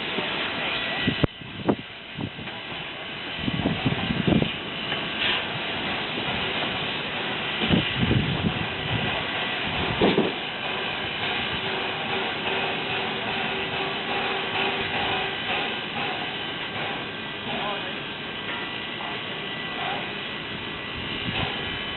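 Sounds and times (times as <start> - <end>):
low steam surges: 0.0 - 21.9
steam locomotive hissing: 0.0 - 21.9.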